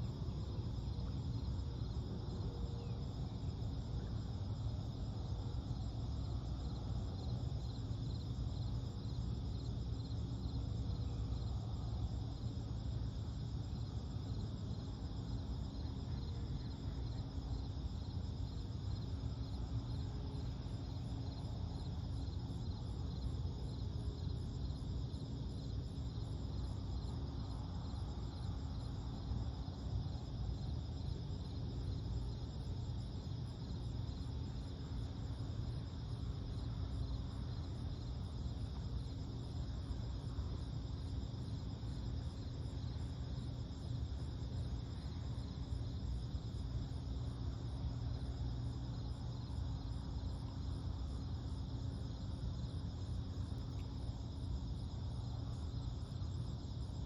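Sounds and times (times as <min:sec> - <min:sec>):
crickets trilling: 0:00.0 - 0:57.0
low background rumble: 0:00.0 - 0:57.0.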